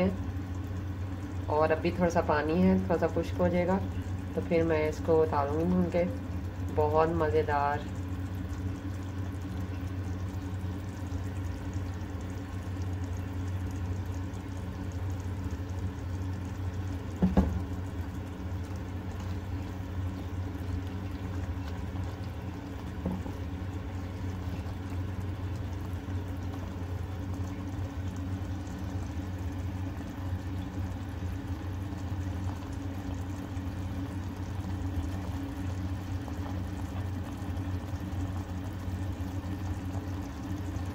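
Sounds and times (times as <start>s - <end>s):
curry bubbling in a pot: 0.0s - 40.9s.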